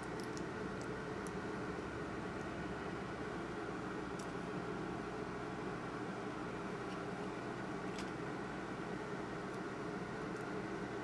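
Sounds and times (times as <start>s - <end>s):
fan hum and hiss: 0.0s - 11.0s.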